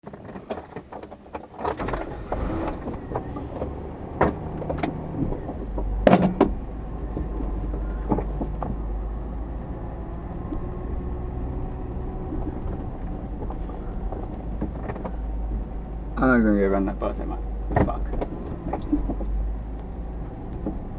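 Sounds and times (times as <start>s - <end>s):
engine running low rumble: 1.2s - 20.9s.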